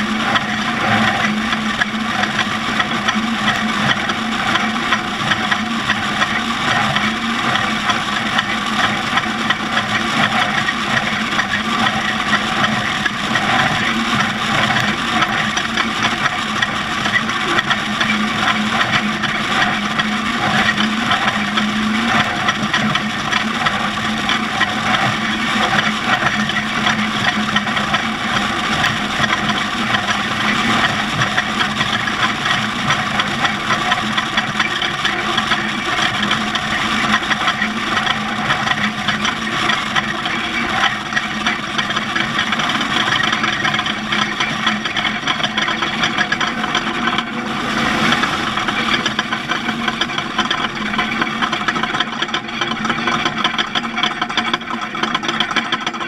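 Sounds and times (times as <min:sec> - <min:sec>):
road and rattle noise: 0:00.0 - 0:56.0
vehicle engine running: 0:00.0 - 0:56.0.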